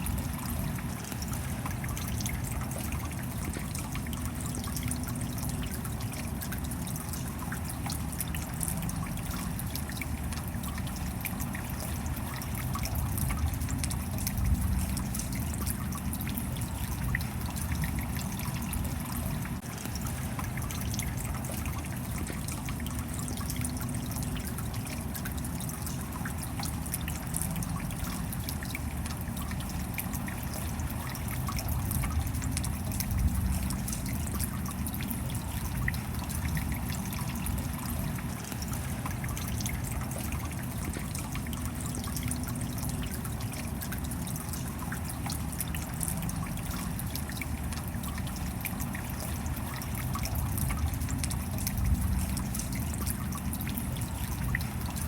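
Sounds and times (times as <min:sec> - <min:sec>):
steady rain: 0:00.0 - 0:55.0
water trickling: 0:00.0 - 0:55.0.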